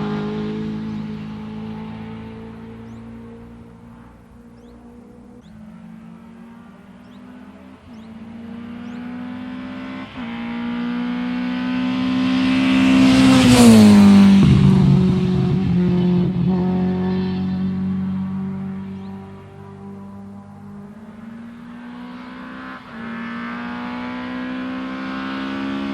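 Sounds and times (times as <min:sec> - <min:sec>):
rally car passing at full throttle: 0:00.0 - 0:25.9.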